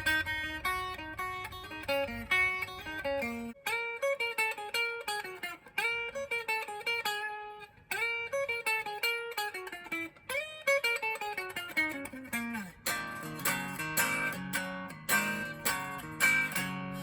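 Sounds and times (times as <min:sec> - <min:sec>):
electric guitar lead with bent notes: 0:00.0 - 0:17.0.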